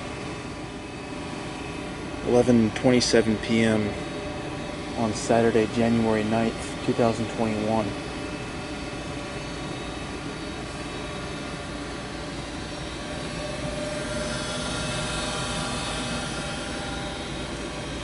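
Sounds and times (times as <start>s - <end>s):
heating equipment hum and hiss: 0.0s - 18.0s
steady tones: 0.0s - 18.0s.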